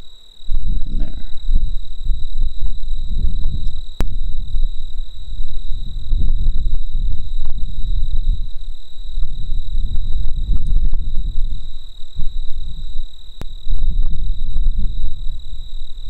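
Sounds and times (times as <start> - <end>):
high-pitched whine: 0.0 - 16.0
wind buffeting microphone: 0.5 - 16.0.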